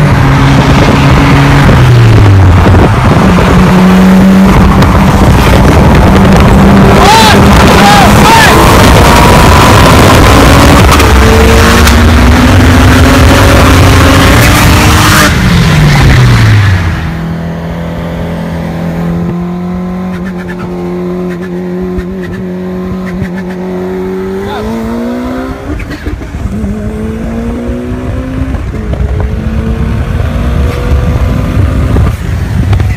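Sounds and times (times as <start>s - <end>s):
turbocharged car engine: 0.0s - 32.9s.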